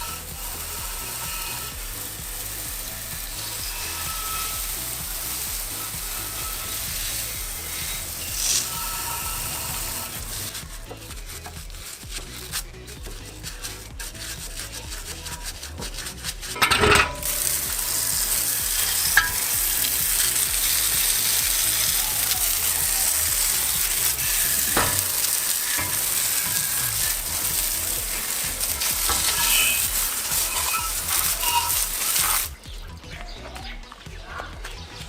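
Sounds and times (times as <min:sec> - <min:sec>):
spray paint hissing: 0:00.0 - 0:32.6.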